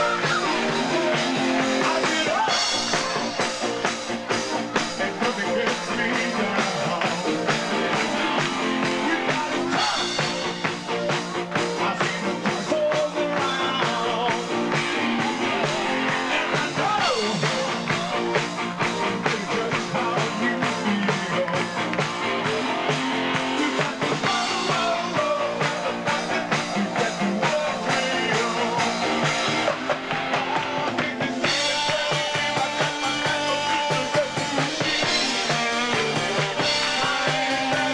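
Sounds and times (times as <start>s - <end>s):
man singing into microphone: 0.0s - 3.2s, 4.8s - 10.5s, 11.6s - 14.8s, 15.6s - 18.4s, 19.1s - 21.8s, 22.4s - 29.2s, 30.2s - 37.9s
live rock band playing: 0.0s - 37.9s.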